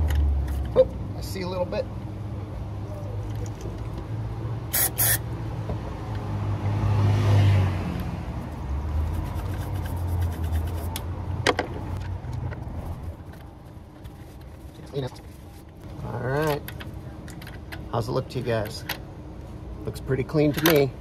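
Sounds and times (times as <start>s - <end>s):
road vehicle passing rumble: 0.0s - 20.3s.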